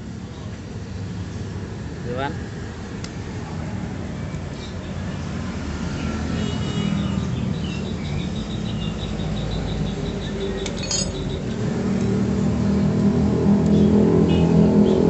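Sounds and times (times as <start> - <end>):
vehicle engine humming: 2.5 - 15.0.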